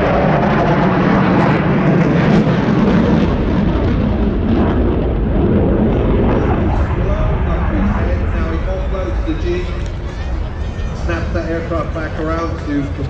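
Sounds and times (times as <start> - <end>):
fighter jet engine noise: 0.0 - 13.0.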